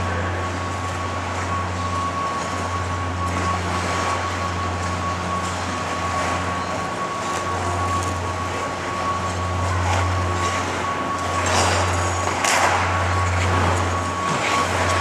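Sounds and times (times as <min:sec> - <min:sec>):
machinery hum: 0:00.0 - 0:15.0
thin steady whine: 0:00.0 - 0:15.0.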